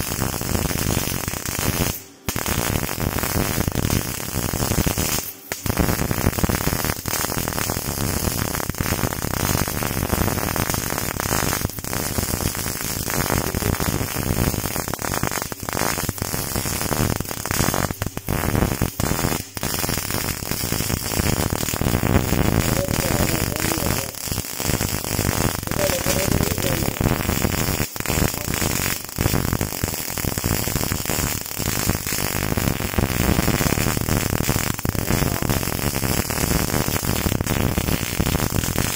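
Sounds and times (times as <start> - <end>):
welding arc crackling: 0.0 - 38.9.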